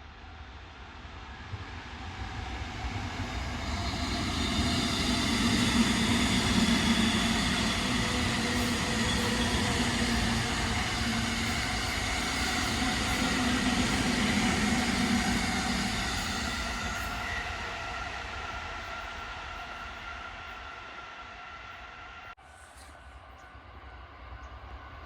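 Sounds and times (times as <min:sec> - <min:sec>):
electric train passing: 0:00.9 - 0:25.0.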